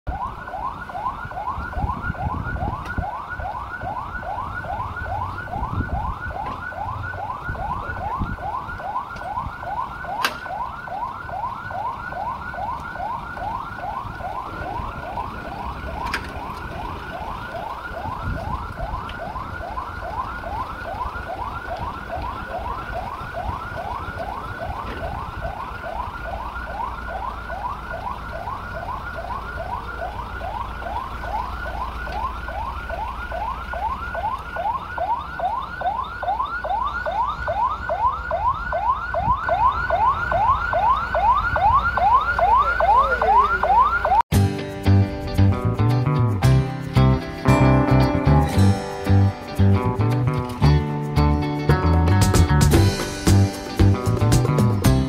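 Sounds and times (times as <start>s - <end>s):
electronic siren yelping: 0.1s - 44.2s, 47.4s - 50.6s.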